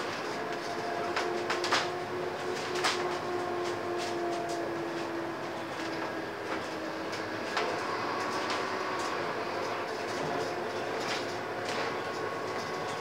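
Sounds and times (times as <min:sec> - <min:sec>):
bus body rattling and clicking: 0:00.0 - 0:13.0
bus drivetrain whine: 0:00.0 - 0:13.0
road noise: 0:00.0 - 0:13.0.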